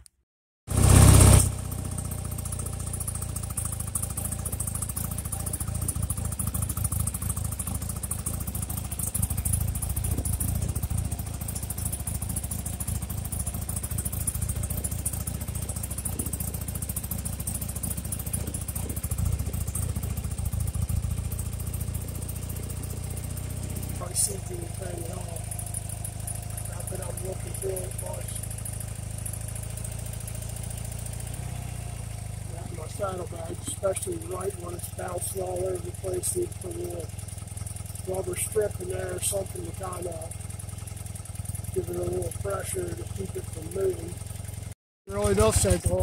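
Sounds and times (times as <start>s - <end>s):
motorcycle engine starting and idling: 0.7s - 46.0s.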